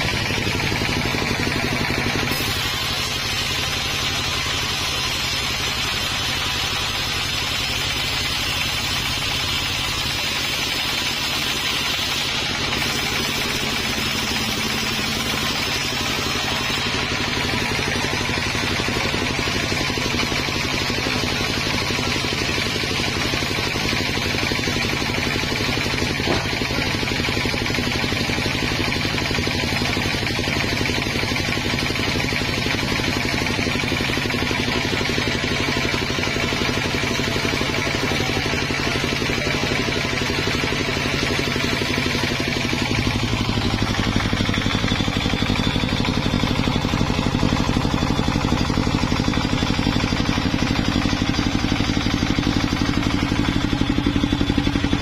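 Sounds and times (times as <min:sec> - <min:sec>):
sawmill engine clattering: 0:00.0 - 0:55.0.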